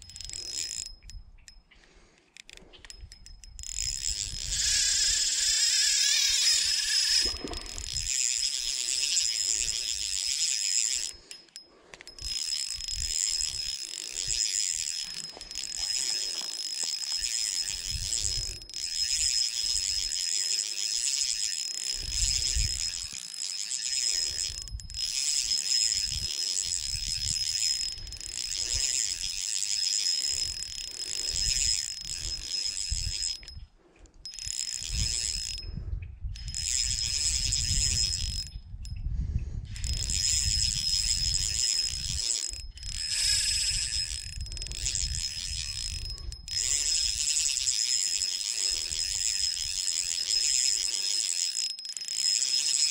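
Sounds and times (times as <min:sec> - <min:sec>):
fishing reel whirring: 0:00.0 - 0:52.9.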